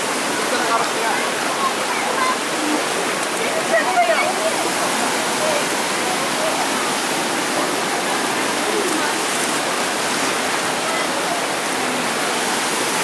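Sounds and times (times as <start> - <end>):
faint voices: 0.0 - 13.0
river rushing over rocks: 0.0 - 13.0.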